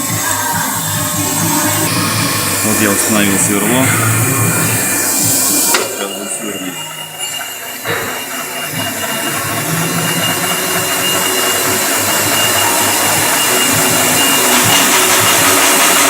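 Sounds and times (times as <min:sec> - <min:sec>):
milling machine spindle whining: 0:00.0 - 0:16.0.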